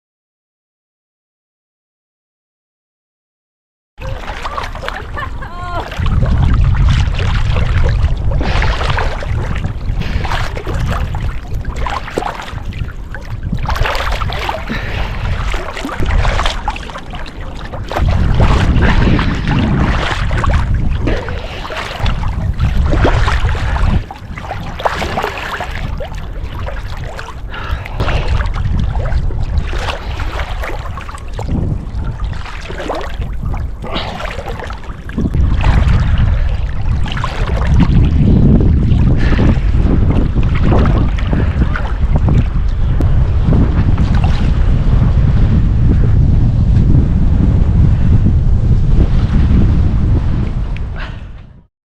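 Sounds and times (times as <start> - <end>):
choppy water splashing: 4.0 - 51.4
wind buffeting microphone: 4.0 - 51.7.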